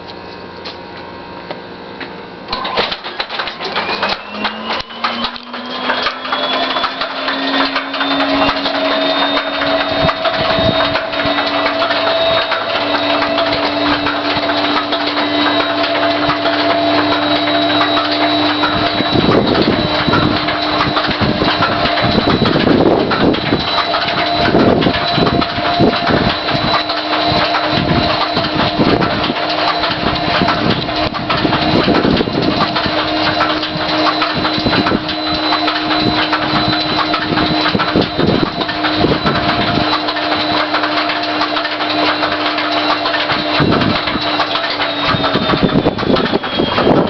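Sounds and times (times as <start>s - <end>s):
engine whine and hum: 0.0s - 47.0s.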